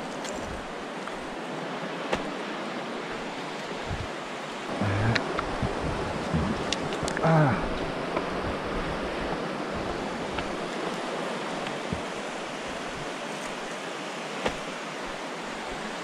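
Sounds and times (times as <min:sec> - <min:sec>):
river rushing over rapids: 0:00.0 - 0:16.0.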